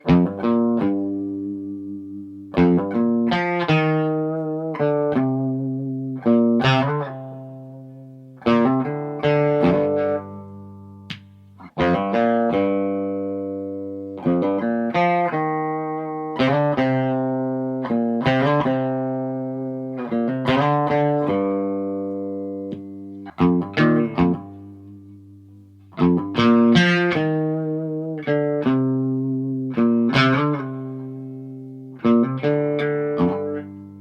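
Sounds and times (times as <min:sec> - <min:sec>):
electric guitar strummed chords: 0:00.0 - 0:34.0.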